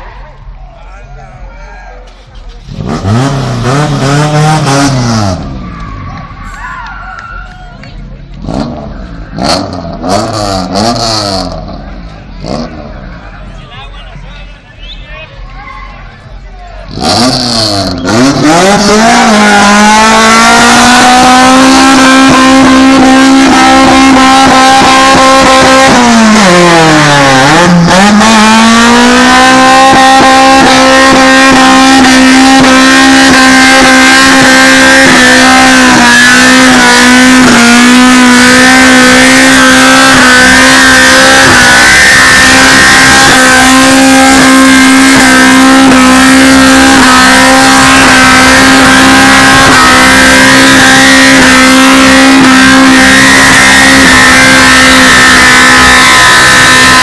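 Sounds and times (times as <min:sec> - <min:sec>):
car engine at high revs: 0:02.2 - 0:06.4, 0:07.8 - 0:13.4, 0:16.2 - 0:57.0.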